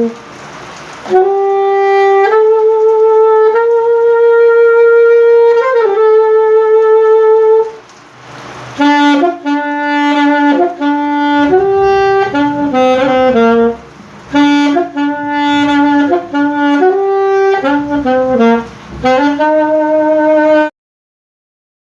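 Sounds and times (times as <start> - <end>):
alto saxophone solo: 0.0 - 20.7.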